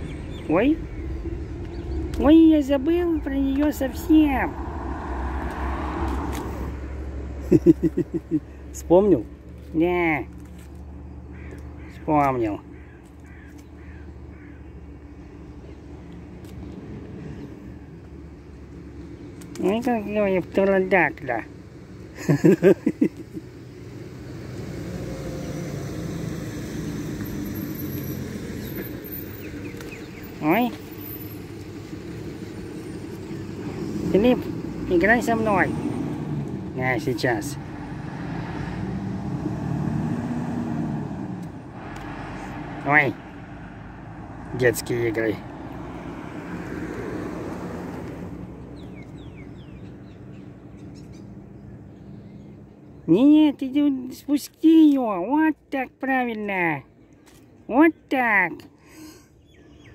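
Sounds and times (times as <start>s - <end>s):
engine droning: 0.0s - 53.8s.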